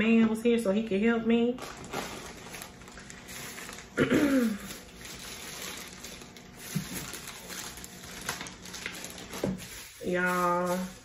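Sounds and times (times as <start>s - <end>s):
plastic packaging rustling: 1.5s - 11.0s.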